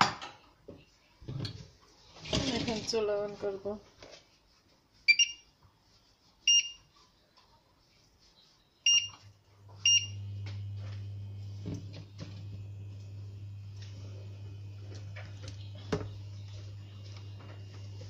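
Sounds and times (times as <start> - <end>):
low electrical hum: 0.8 - 18.0.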